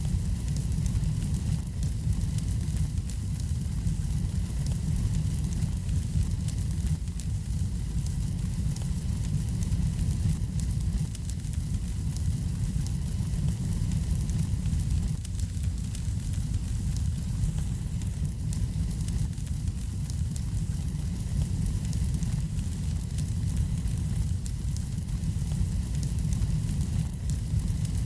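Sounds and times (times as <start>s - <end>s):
faint fire crackles: 0.0s - 28.0s
wood fire rumble: 0.0s - 28.0s.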